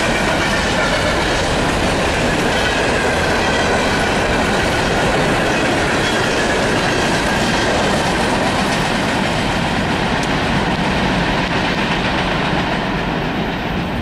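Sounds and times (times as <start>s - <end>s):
freight train rolling past: 0.0s - 14.0s
rail clatter: 0.0s - 14.0s.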